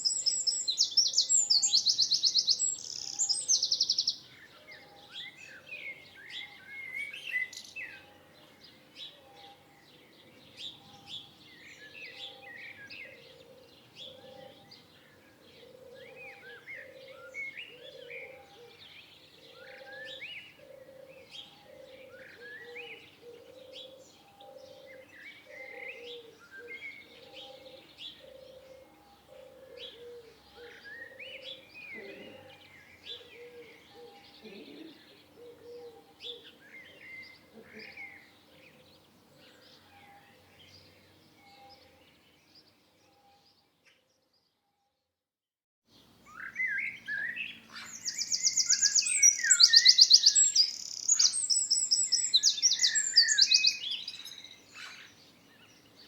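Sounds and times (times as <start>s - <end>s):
songbirds chirping and singing: 0.0s - 44.6s, 45.9s - 56.0s.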